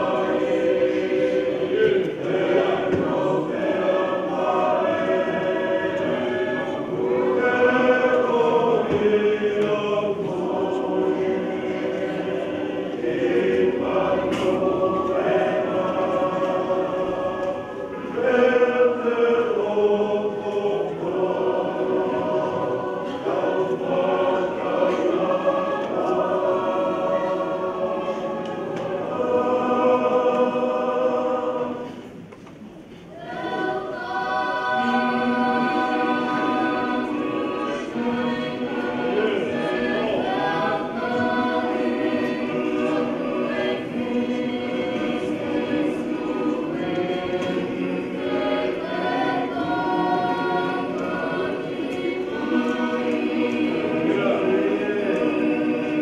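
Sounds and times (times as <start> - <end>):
church choir singing a hymn: 0.0 - 56.0.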